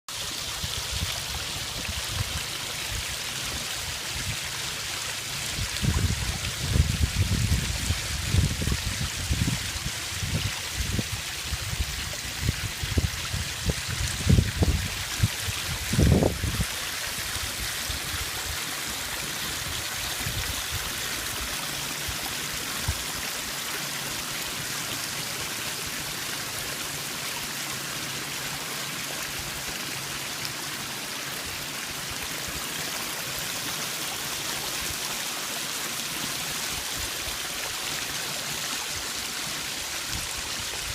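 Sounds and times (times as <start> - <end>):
waterfall rushing: 0.2 - 40.9.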